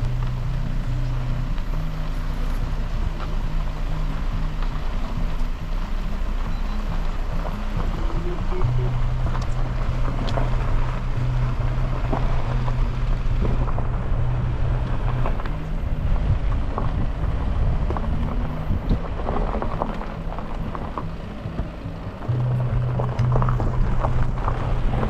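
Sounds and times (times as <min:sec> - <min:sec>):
car engine hum: 0:00.0 - 0:25.0
low road rumble: 0:00.0 - 0:25.0.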